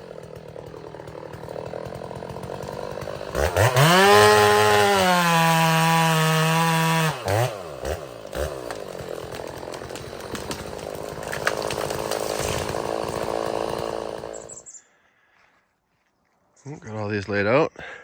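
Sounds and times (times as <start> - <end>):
chainsaw revving and idling: 0.0 - 14.7.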